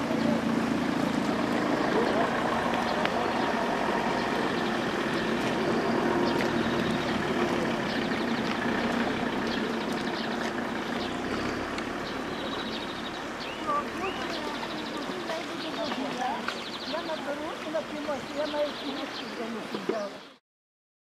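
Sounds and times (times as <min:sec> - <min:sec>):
river water rushing: 0:00.0 - 0:20.4.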